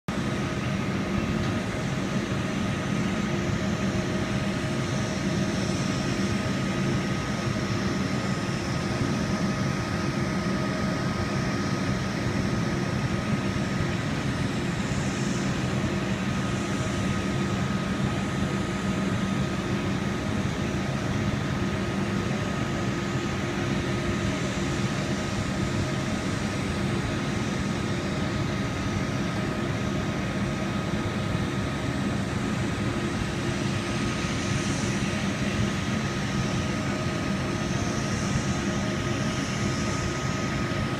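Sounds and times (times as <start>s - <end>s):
boat engines and pumps droning: 0.1s - 40.9s.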